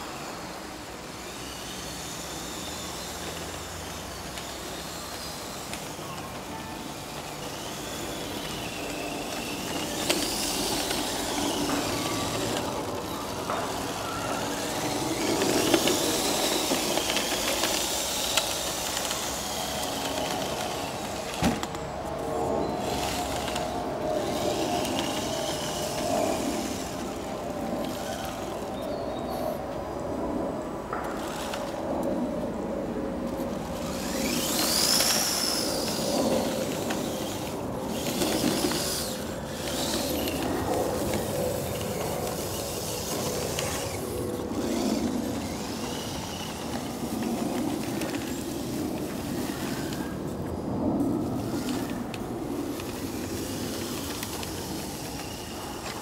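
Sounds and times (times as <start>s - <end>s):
toy truck motor and gears whining: 0.0s - 30.0s, 30.6s - 50.7s, 51.3s - 56.0s.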